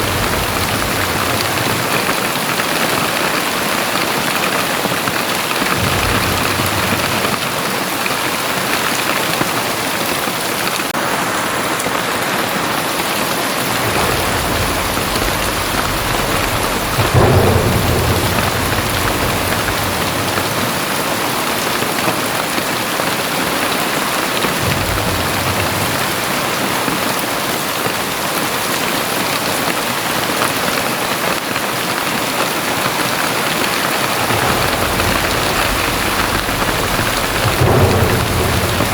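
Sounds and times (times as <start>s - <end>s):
thunder crack: 0.0s - 11.4s, 13.5s - 30.2s, 32.8s - 38.9s
thunder rumbling: 0.0s - 11.4s, 13.2s - 29.9s, 32.9s - 38.9s
heavy rain pouring: 0.0s - 38.9s.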